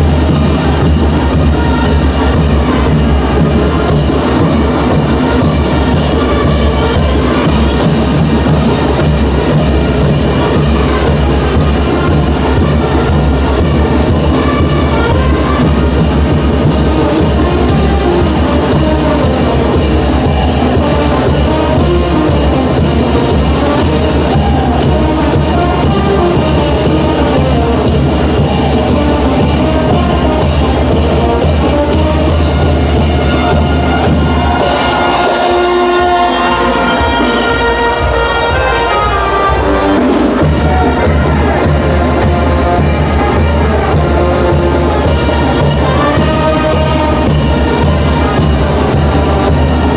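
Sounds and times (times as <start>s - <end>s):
bass drum and cymbals beat: 0.0s - 49.9s
brass band playing: 0.0s - 49.9s.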